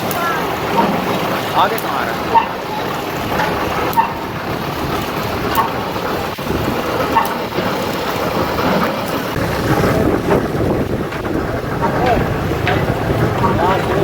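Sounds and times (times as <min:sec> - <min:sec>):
motorcycle road noise: 0:00.0 - 0:14.0
rushing wind: 0:00.0 - 0:14.0.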